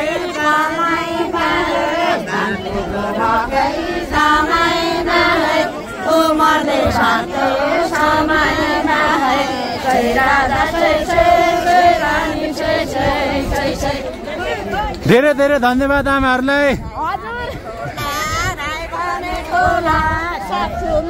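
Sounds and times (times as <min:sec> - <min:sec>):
women singing folk song together: 0:00.0 - 0:15.0, 0:17.0 - 0:21.0.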